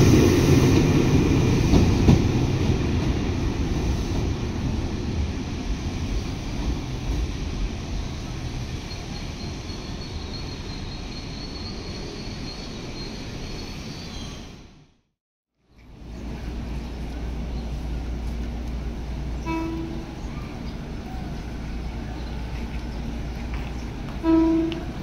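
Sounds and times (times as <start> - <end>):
train rumble: 0.0 - 14.1, 15.7 - 25.0.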